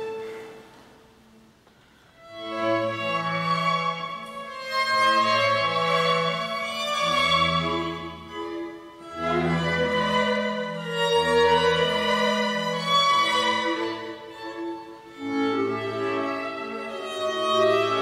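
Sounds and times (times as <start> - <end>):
clarinet and strings dance music: 0.0 - 0.6, 2.2 - 18.0.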